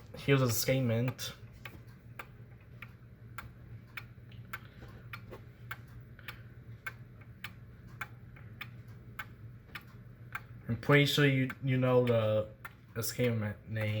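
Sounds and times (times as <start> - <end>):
low steady hum: 0.0 - 14.0
wall clock ticking: 0.0 - 14.0.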